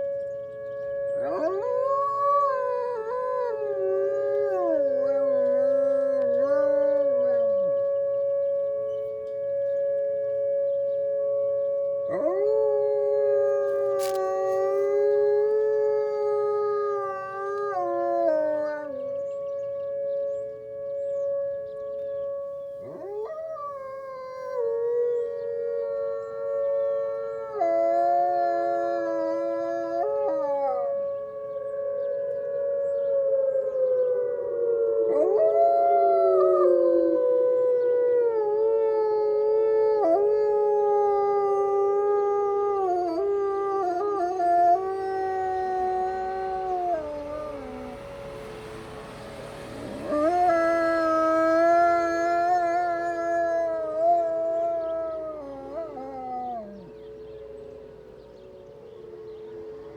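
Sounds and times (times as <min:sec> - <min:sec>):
wolfdogs howling: 0:00.0 - 0:59.9.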